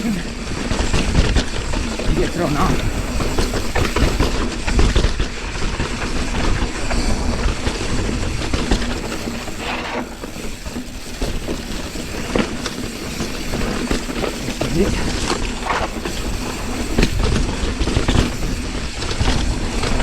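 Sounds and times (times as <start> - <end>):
bike chain and frame clattering: 0.0 - 20.0
tyres on dirt and rock: 0.0 - 20.0.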